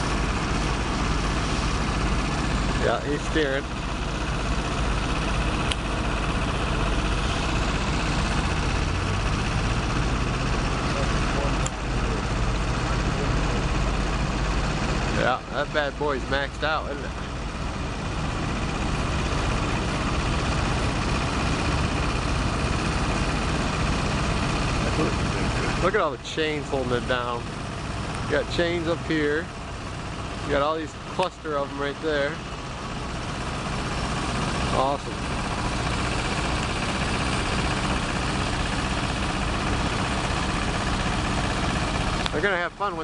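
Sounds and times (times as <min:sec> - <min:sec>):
truck engine rumbling: 0:00.0 - 0:43.0.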